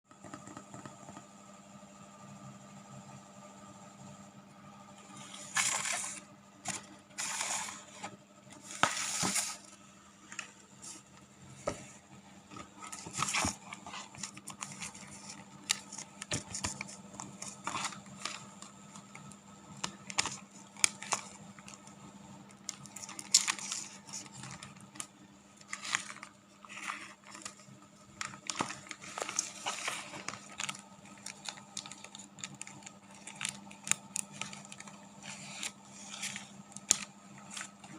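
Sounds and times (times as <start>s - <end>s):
faint steady hum: 0.1s - 37.9s
material crinkling and rustling: 5.0s - 37.9s.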